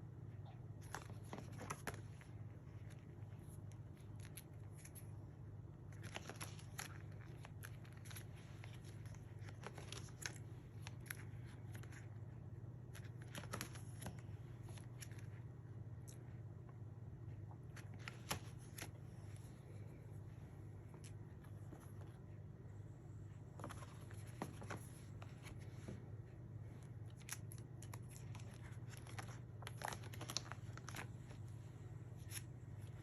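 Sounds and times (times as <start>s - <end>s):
steady low hum: 0.0s - 33.0s
album pages being turned: 0.7s - 5.1s, 5.8s - 16.2s, 17.6s - 20.1s, 23.3s - 33.0s.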